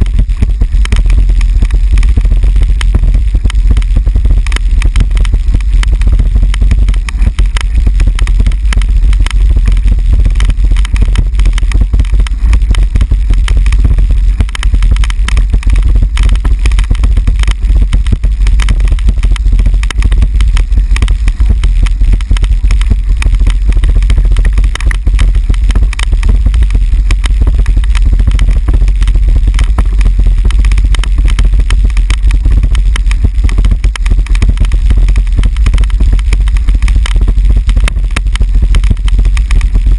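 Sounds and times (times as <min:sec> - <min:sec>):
bicycle rattling over cobblestones: 0:00.0 - 0:39.9
deep rumble: 0:00.0 - 0:39.9.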